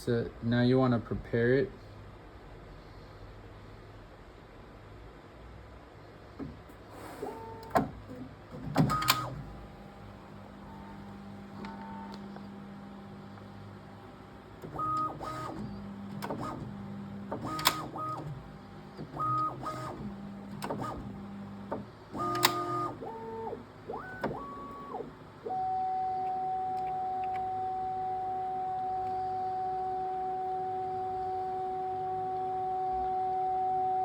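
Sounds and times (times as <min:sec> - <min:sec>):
steady low hum: 0:06.2 - 0:34.0
printer motors whining: 0:06.7 - 0:34.0.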